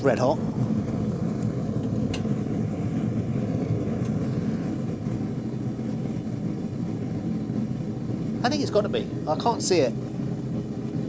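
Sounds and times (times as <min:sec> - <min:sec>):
gas torch flame roaring: 0:00.0 - 0:11.0.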